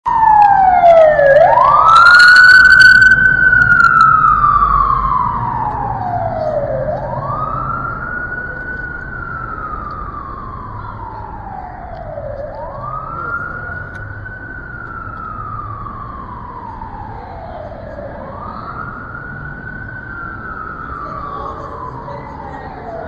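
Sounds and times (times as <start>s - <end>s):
emergency vehicle siren wailing: 0.0s - 23.0s.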